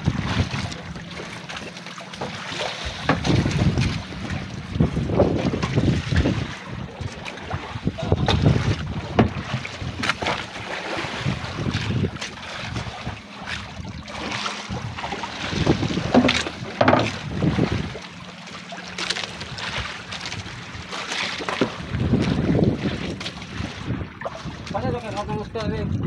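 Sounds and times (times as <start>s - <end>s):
wind buffeting microphone: 0.0s - 1.2s, 2.8s - 18.2s, 19.3s - 26.0s
water splashing against boat hull: 0.0s - 26.0s.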